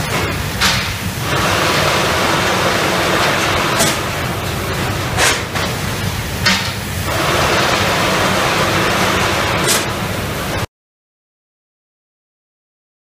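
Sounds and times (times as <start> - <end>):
bagging machine rushing noise: 0.0 - 10.7
factory din: 0.0 - 10.7.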